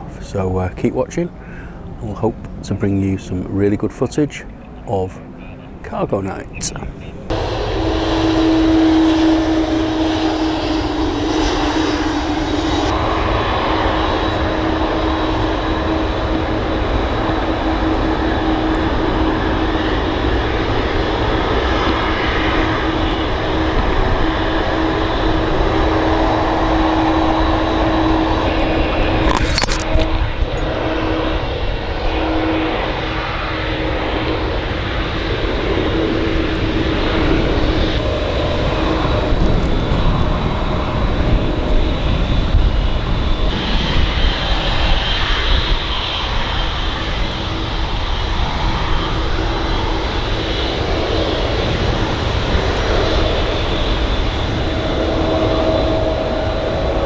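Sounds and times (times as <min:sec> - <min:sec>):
high engine whine: 0:00.0 - 0:57.0
jet engines rumbling: 0:00.0 - 0:57.0.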